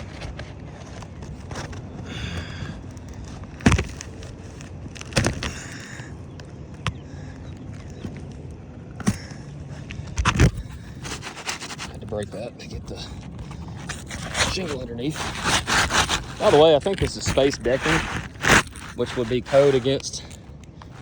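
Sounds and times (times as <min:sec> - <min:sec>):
knocks and scraping on shingle roof: 0:00.0 - 0:21.0.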